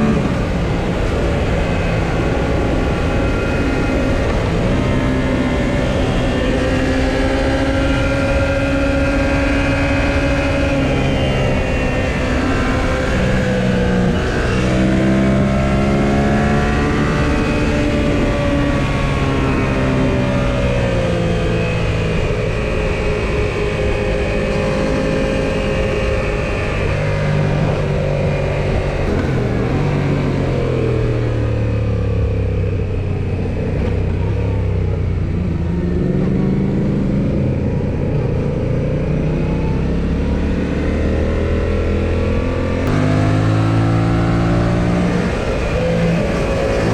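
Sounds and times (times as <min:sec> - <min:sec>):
motorcycle engine revving: 0:00.0 - 0:46.9
wind and road rumble: 0:00.0 - 0:46.9.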